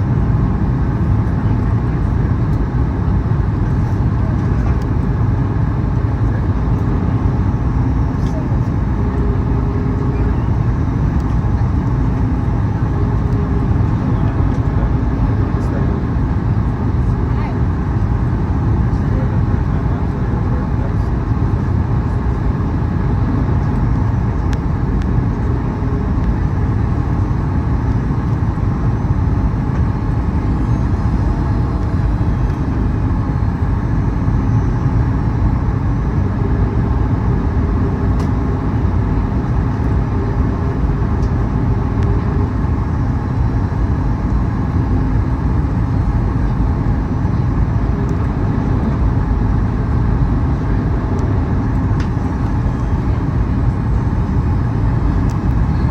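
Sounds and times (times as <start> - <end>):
airliner cabin engine rumble: 0.0 - 55.9.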